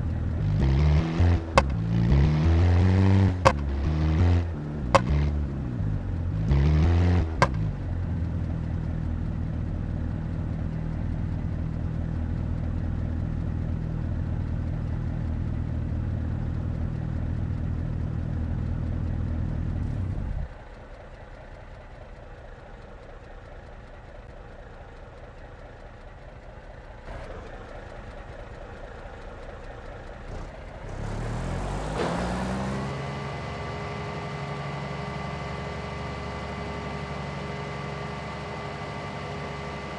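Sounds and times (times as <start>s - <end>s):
rising machine whine and hum: 0.0s - 39.9s
vehicle engine running: 0.0s - 39.9s.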